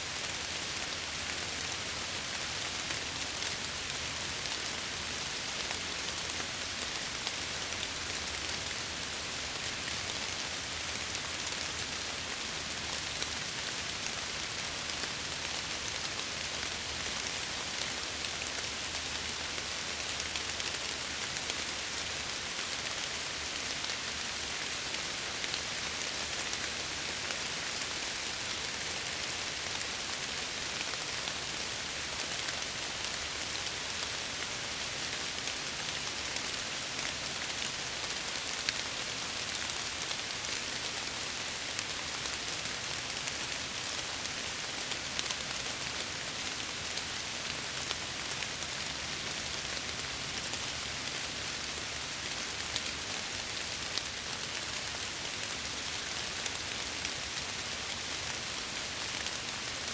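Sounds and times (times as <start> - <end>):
rain pattering on a window: 0.1 - 59.9.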